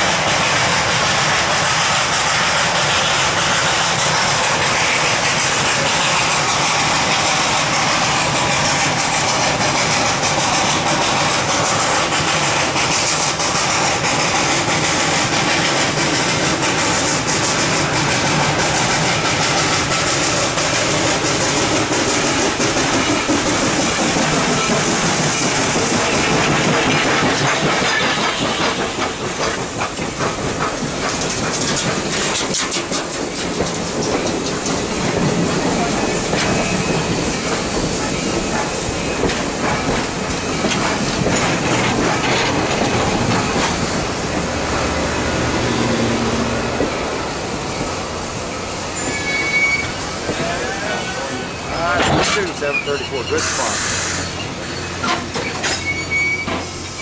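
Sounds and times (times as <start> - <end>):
steam locomotive hissing: 0.0 - 57.0
wheels clicking over rail joints: 2.3 - 48.4, 54.8 - 57.0.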